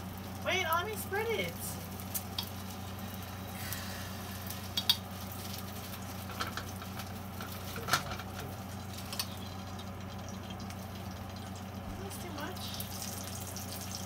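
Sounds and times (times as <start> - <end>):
dough sizzling in skillet: 0.0 - 14.0
steady low hum: 0.0 - 14.0.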